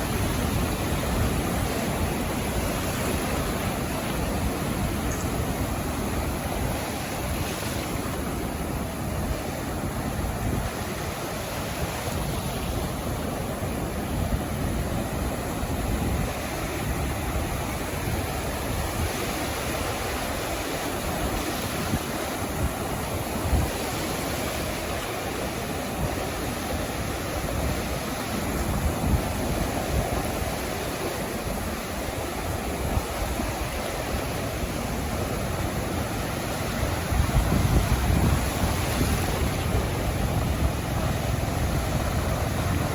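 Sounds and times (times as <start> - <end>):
waves breaking on shore: 0.0 - 42.9
wind buffeting microphone: 0.0 - 42.9.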